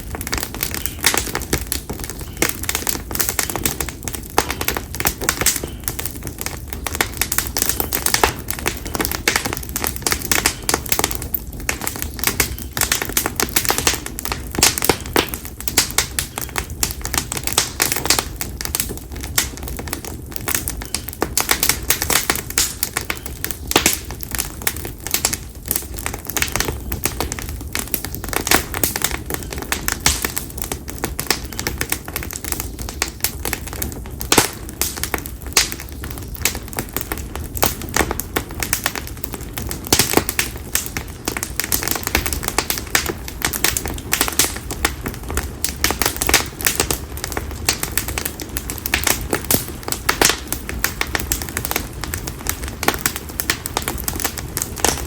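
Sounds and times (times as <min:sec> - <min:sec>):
firewood crackling in campfire: 0:00.0 - 0:55.0.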